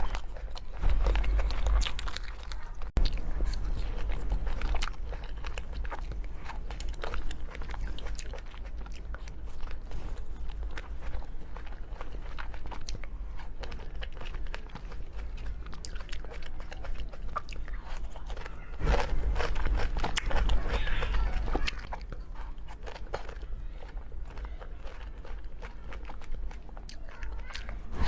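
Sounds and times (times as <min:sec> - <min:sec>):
person biting and chewing food: 0:00.0 - 0:28.0.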